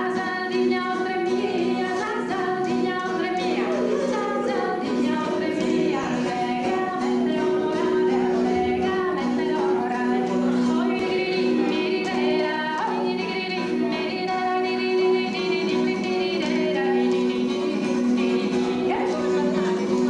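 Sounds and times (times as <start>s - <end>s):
woman singing into a microphone: 0.0s - 20.0s.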